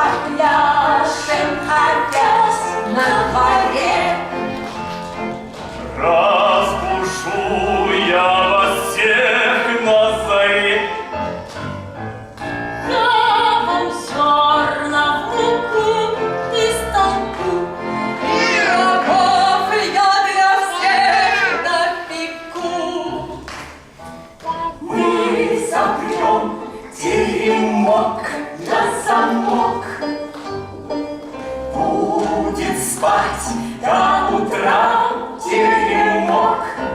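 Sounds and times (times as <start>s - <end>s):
musical theatre singing: 0.0s - 36.9s.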